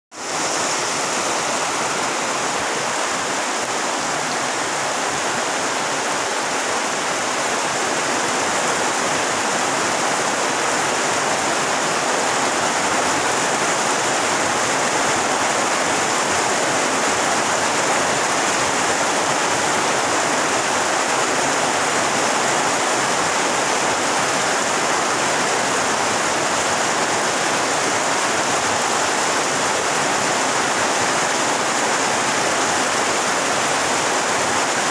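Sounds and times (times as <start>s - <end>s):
heavy rain on a pond: 0.1s - 34.9s.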